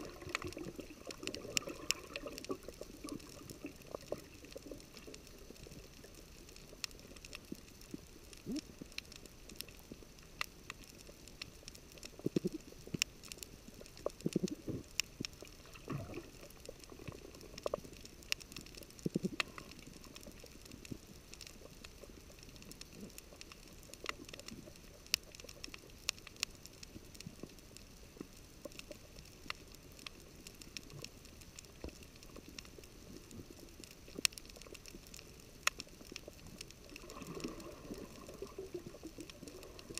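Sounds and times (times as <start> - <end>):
faint hiss: 0.0 - 39.9
underwater gurgling bubbles: 0.0 - 39.9.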